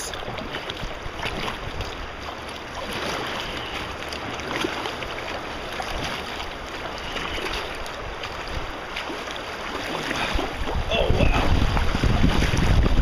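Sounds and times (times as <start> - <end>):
water churning and rushing: 0.0 - 13.0.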